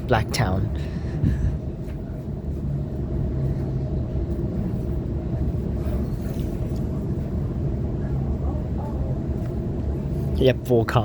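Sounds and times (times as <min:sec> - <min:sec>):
steady hum: 0:00.0 - 0:11.0
train low rumble: 0:00.0 - 0:11.0.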